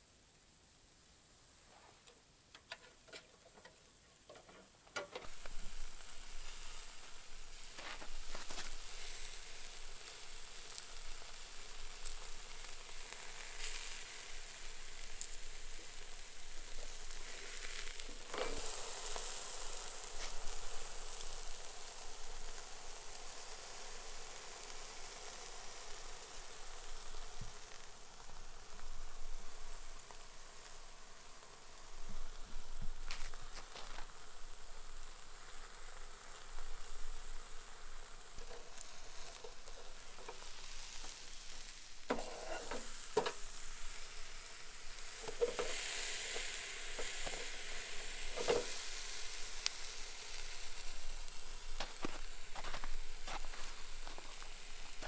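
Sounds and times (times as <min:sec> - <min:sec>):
meat sizzling on a grill: 0:00.0 - 0:55.0.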